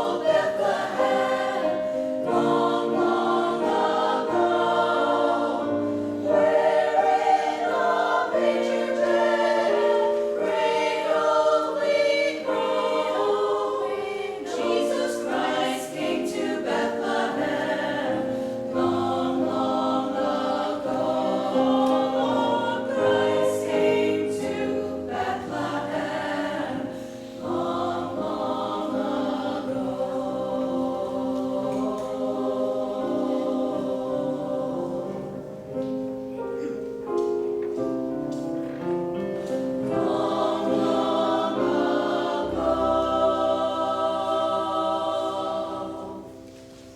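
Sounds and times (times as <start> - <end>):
choir singing in harmony: 0.0 - 46.9.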